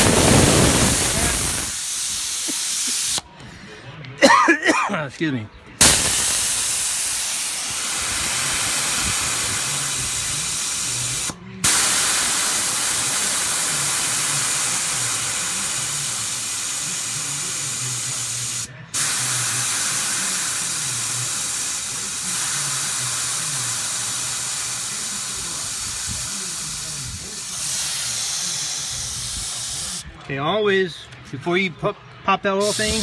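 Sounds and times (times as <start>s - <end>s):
compressed air hissing: 0.0s - 3.2s, 5.8s - 30.0s, 32.6s - 33.0s.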